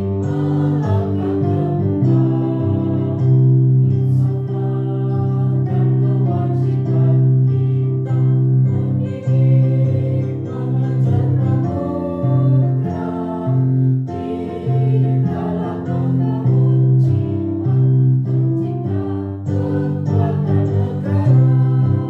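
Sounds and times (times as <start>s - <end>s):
children's choir singing: 0.0s - 22.0s
instrumental accompaniment: 0.0s - 22.0s.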